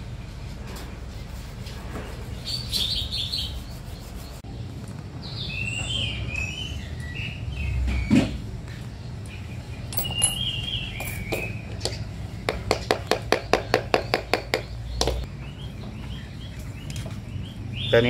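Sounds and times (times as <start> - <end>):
small birds chirping: 1.9 - 18.0.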